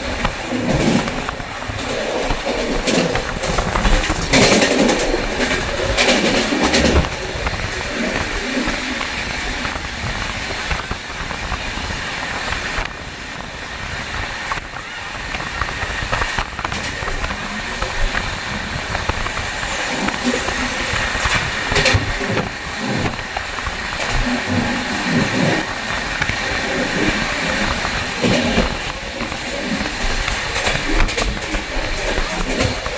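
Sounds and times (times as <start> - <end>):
train rumble and rattle: 0.0 - 32.9.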